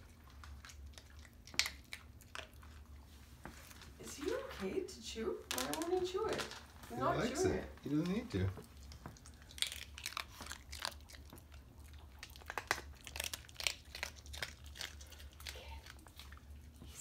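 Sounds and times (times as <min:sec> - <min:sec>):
dogs chewing crunchy food: 0:00.0 - 0:04.9, 0:05.5 - 0:17.0.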